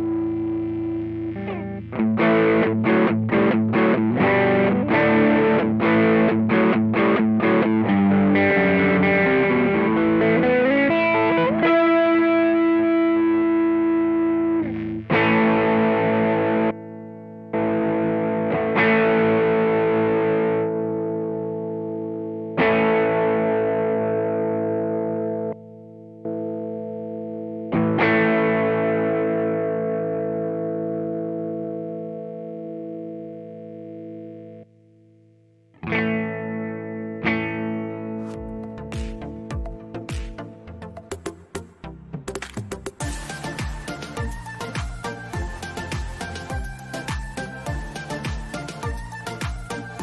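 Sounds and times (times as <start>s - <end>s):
distorted electric guitar riff: 0.0s - 50.0s.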